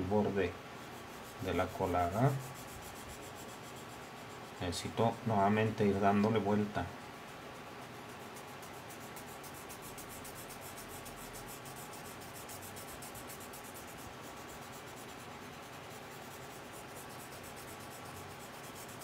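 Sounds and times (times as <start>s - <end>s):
blending stump rubbing on paper: 0.0s - 19.0s.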